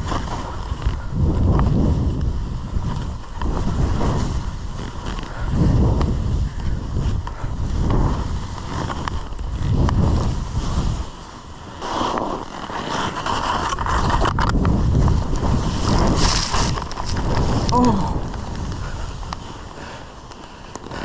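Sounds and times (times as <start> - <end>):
skis scraping over snow: 0.0 - 21.0
wind buffeting microphone: 0.0 - 21.0.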